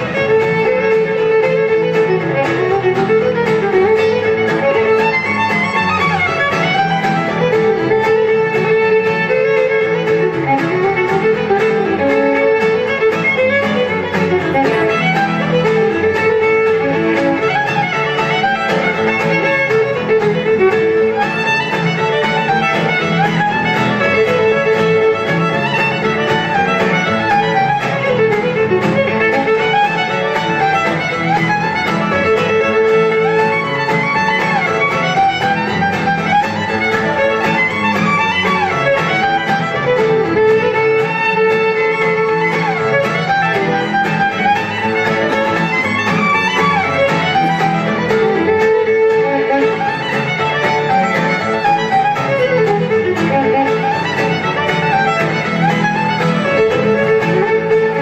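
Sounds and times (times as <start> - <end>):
acoustic guitar accompaniment: 0.0 - 58.0
fiddle playing a tune: 0.0 - 58.0.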